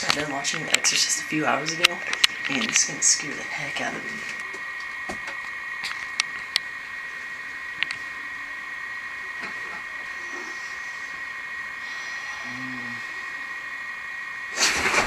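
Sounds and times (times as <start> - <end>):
high-pitched electronic whine: 0.0 - 15.0.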